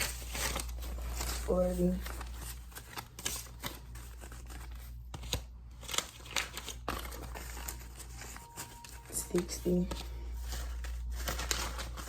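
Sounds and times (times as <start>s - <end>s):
banknotes crinkling and snapping: 0.0s - 12.0s.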